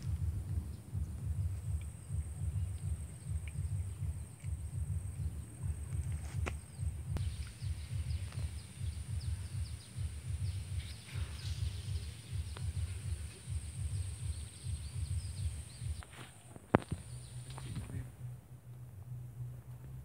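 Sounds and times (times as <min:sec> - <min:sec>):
birds chirping: 0:00.0 - 0:18.3
low uneven rumble: 0:00.0 - 0:20.0
steady high whine: 0:00.0 - 0:20.0.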